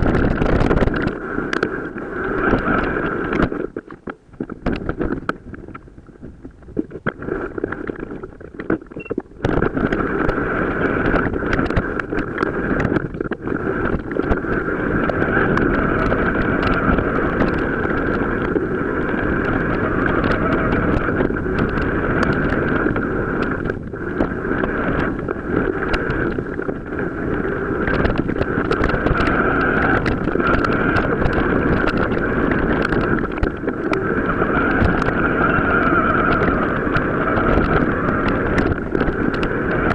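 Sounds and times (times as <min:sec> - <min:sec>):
bike tyre rumble off road: 0:00.0 - 0:39.9
wind on microphone: 0:00.0 - 0:39.9.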